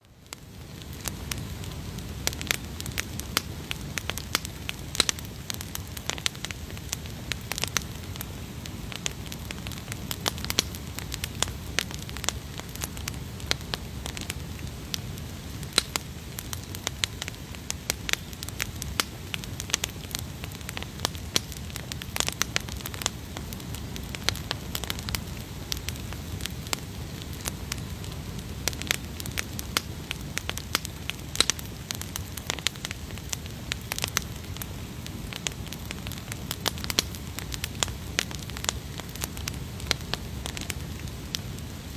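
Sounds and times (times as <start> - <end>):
fire snaps and pops: 0.0 - 41.9
wood fire crackling: 0.0 - 41.9.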